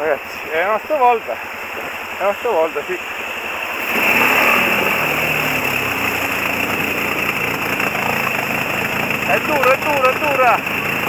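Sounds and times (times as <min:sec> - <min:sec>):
quad bike engine revving: 0:00.0 - 0:11.0
water rushing and splashing: 0:00.0 - 0:11.0.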